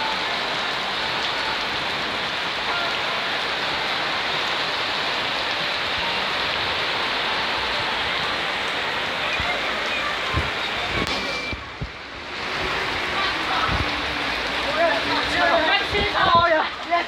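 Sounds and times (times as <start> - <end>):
rain pouring: 0.0 - 17.0.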